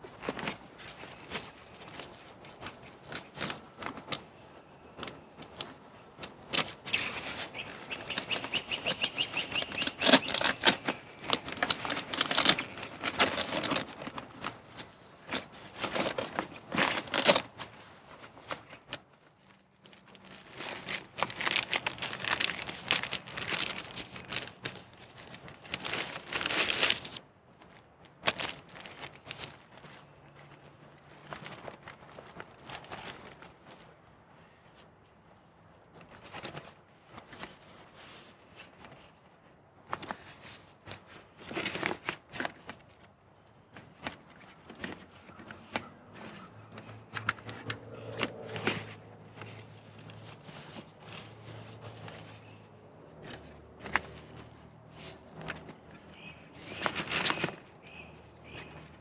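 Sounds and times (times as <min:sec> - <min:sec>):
clicks and knocks inside bag: 0:00.0 - 0:33.9, 0:35.8 - 0:37.9, 0:39.8 - 0:59.0
bag fabric and packaging rustling: 0:00.0 - 0:59.0.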